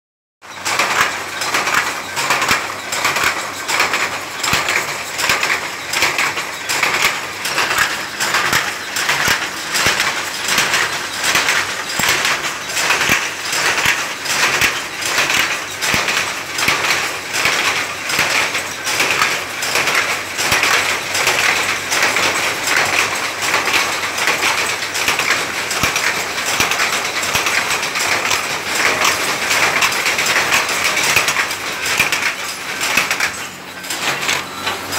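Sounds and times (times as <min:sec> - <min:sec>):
power loom clattering: 0:00.5 - 0:34.9.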